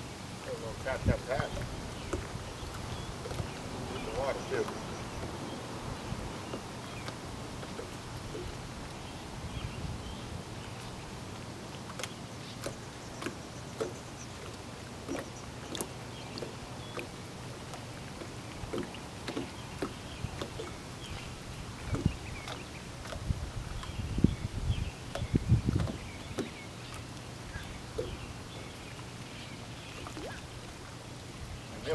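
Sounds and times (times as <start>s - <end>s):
water lapping against boat hull: 0.0s - 31.9s.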